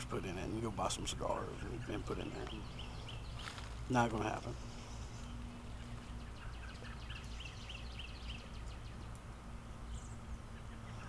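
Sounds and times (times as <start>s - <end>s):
low steady hum: 0.0s - 11.0s
faint bird chirps: 0.7s - 11.0s.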